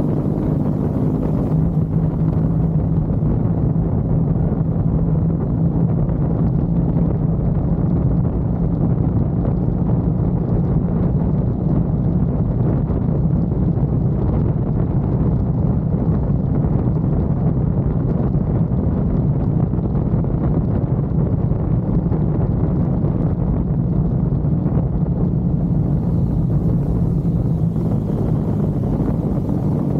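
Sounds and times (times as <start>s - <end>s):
motorcycle engine running: 0.0s - 18.0s, 23.0s - 29.9s
wind buffeting microphone: 0.0s - 29.9s.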